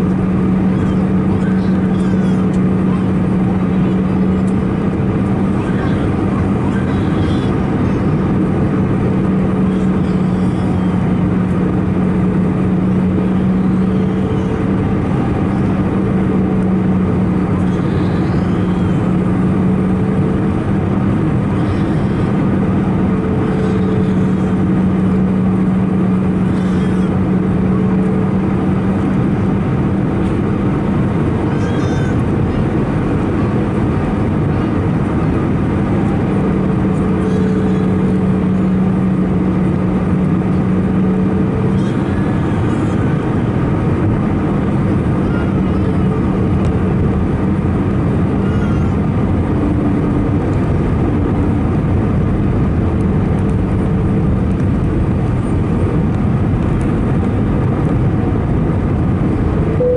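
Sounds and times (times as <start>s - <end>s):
jet engines and airflow drone: 0.0s - 59.9s
low steady hum: 0.0s - 59.9s.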